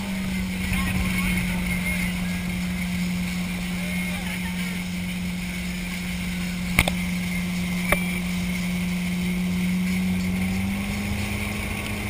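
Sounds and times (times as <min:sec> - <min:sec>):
motorboat engine running: 0:00.0 - 0:12.0
wind and churning wake: 0:00.0 - 0:12.0.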